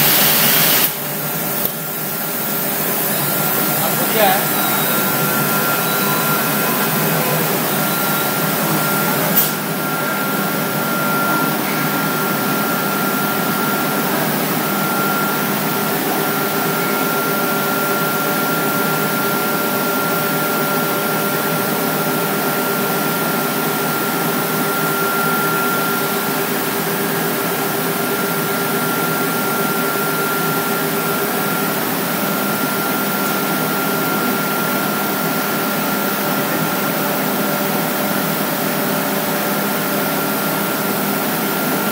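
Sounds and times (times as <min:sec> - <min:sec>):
cnc machine running: 0:00.0 - 0:41.9.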